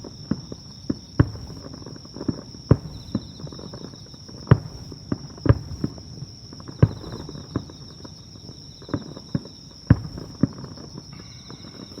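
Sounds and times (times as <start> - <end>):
distant fireworks booming: 0.0 - 12.0.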